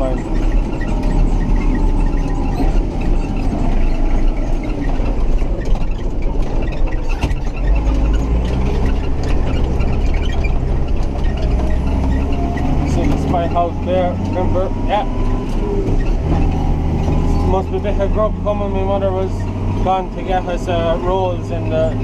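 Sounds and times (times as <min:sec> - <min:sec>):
tractor engine drone: 0:00.0 - 0:22.0
trailer rattling: 0:00.0 - 0:22.0.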